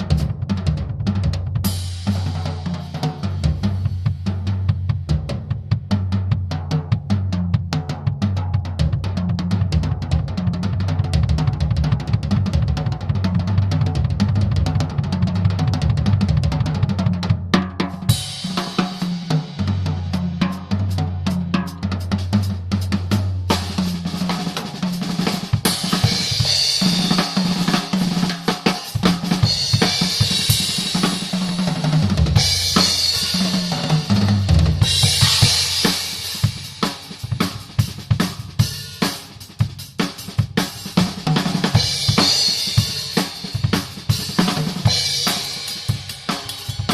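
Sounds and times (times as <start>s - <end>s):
drum kit groove: 0.0s - 46.9s.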